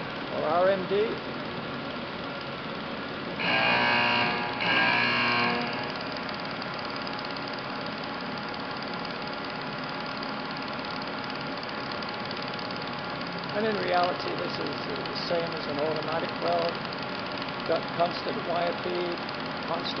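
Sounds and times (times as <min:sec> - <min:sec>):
steady pitched hum: 0:00.0 - 0:20.0
welding arc: 0:03.4 - 0:20.0.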